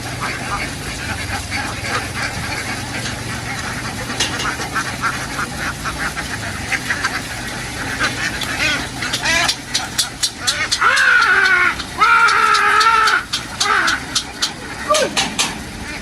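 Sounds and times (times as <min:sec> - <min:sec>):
ducks quacking: 0:00.0 - 0:16.0
steady low hum: 0:00.0 - 0:16.0.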